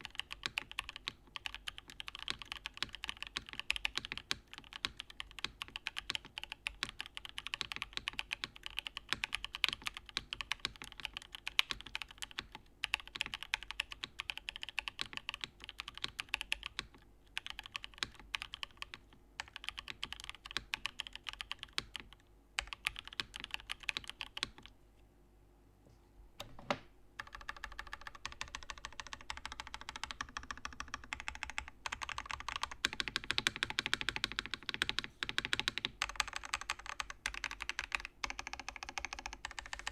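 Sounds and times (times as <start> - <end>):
mechanical keyboard typing: 0.0 - 24.7, 27.2 - 39.9.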